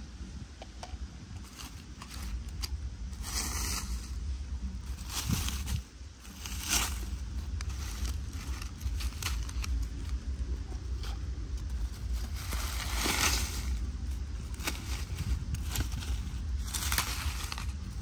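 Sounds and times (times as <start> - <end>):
steady low rumble: 0.0 - 18.0
stick scraping leaf litter: 1.4 - 18.0.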